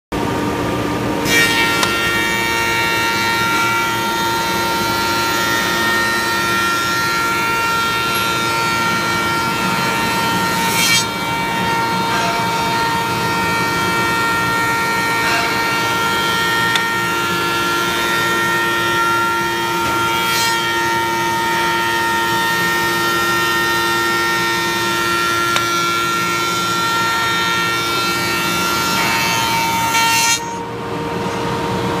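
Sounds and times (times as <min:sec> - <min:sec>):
wood moulding machine running: 0:00.2 - 0:32.0.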